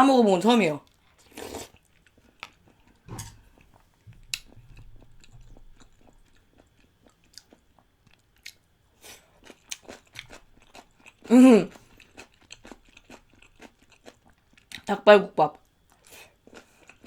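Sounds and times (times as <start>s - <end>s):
person chewing food: 0.8s - 14.9s, 15.7s - 17.0s.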